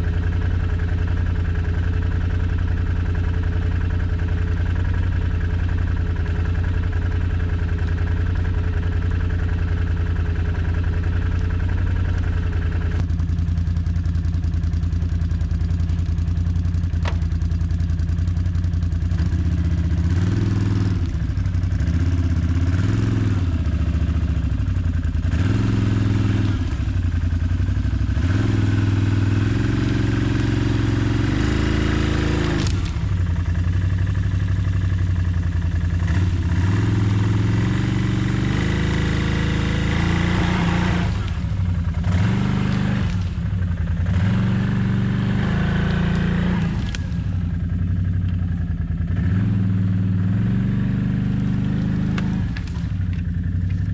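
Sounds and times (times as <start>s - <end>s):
atv engine idling and revving: 0.0s - 53.9s.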